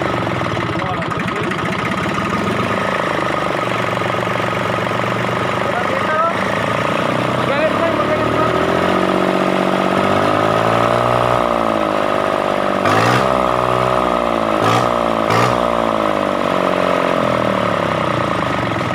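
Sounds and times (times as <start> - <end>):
diesel engine revving: 0.0 - 18.9.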